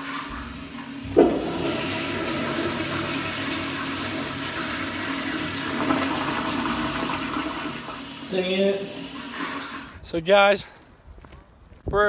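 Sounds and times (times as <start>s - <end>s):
toilet flushing: 0.0s - 10.0s.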